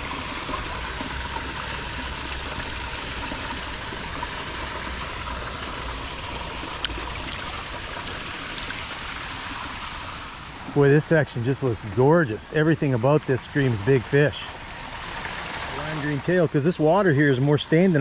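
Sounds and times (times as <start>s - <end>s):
water pouring into creek: 0.0s - 18.0s.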